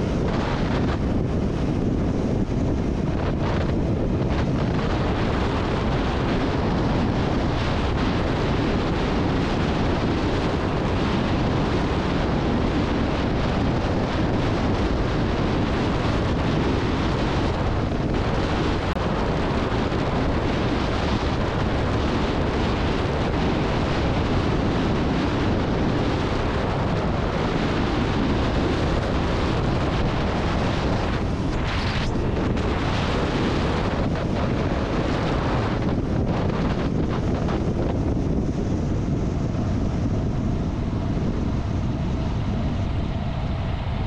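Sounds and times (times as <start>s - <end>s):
motorcycle engine and tyre noise: 0.0s - 44.0s
wind rush over microphone: 0.0s - 44.0s.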